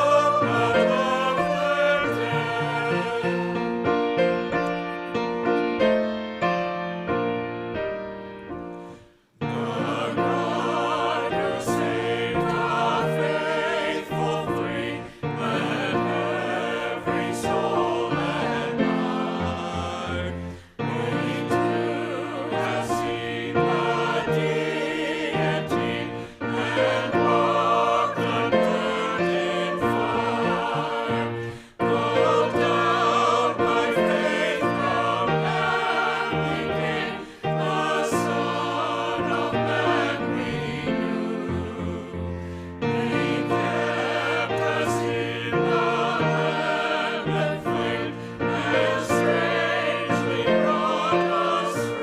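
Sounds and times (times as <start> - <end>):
voices singing a hymn: 0.0 - 7.2, 8.8 - 52.0
keyboard accompaniment: 0.0 - 52.0.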